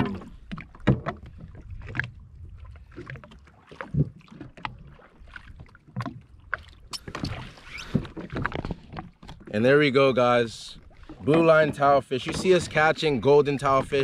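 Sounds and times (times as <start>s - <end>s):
water splashing against hull: 0.0s - 14.0s.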